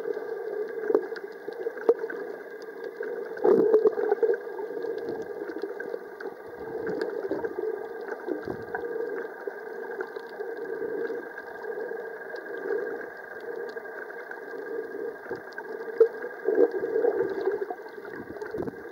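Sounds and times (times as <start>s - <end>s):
muffled underwater water noise: 0.0s - 18.9s.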